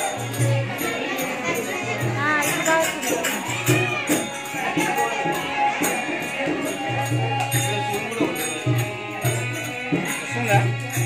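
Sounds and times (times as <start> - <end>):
percussion strikes: 0.0 - 11.0.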